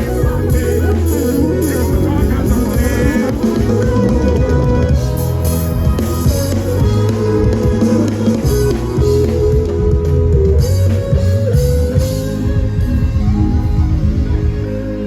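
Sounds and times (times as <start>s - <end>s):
bass: 0.0s - 15.0s
drums: 0.0s - 15.0s
sliding guitar notes: 0.0s - 15.0s.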